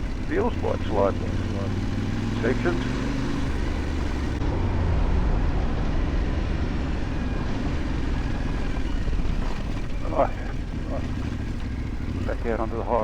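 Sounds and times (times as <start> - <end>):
constant rushing noise: 0.0 - 13.0
motorcycle engine running: 0.0 - 13.0.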